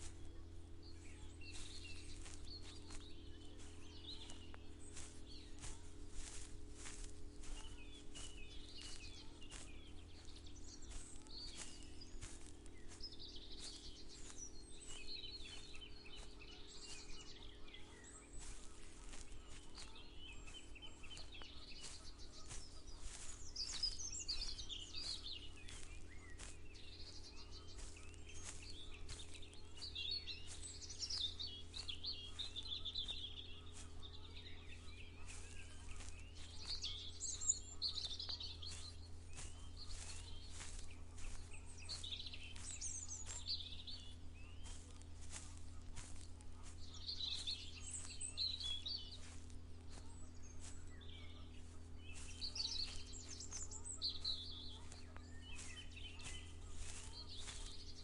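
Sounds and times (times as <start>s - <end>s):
birds singing and chirping: 0.0s - 58.0s
footsteps walking: 0.0s - 58.0s
steady low hum: 0.0s - 58.0s.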